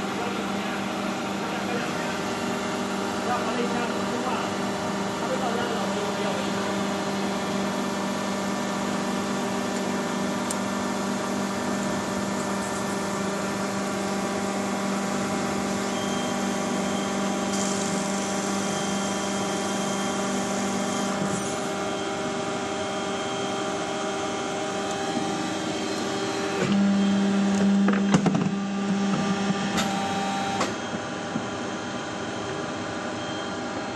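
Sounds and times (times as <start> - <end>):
welding machine humming: 0.0 - 31.7.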